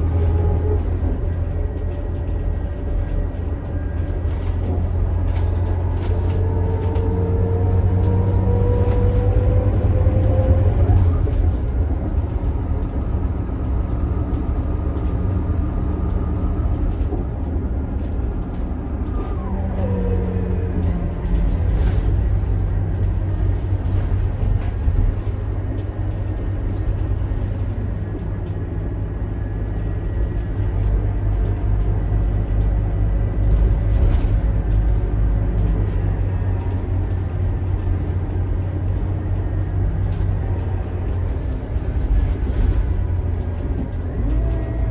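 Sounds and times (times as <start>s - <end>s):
bus engine running: 0.0s - 44.9s.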